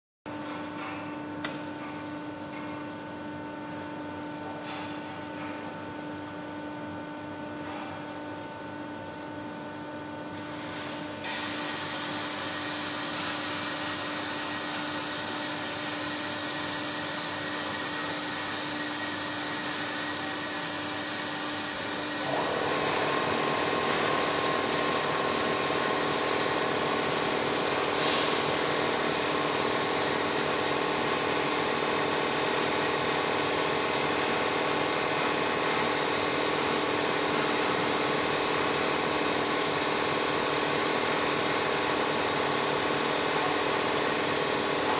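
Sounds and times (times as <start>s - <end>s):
welding machine hum: 0.5s - 44.9s.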